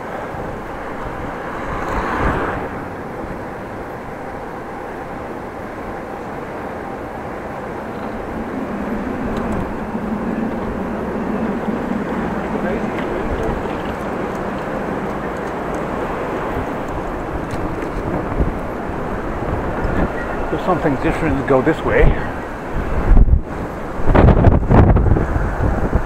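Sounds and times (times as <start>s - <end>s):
road noise: 0.0s - 26.0s
wind rushing over microphone: 0.0s - 26.0s
low steady hum: 0.2s - 21.5s.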